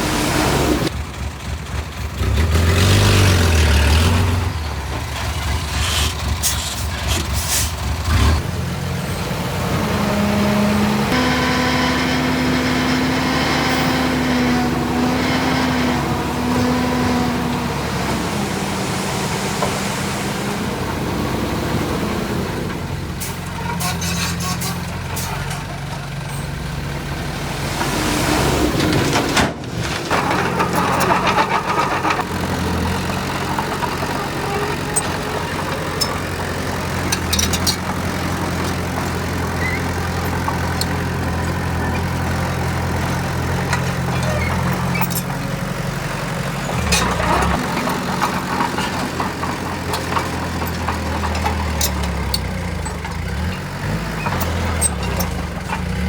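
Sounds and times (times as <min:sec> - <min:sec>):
heavy diesel machine engine: 0:00.0 - 0:56.0.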